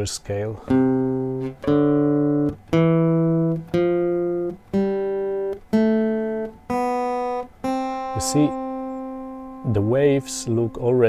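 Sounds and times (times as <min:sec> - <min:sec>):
acoustic guitar plucked scale: 0:00.6 - 0:11.0.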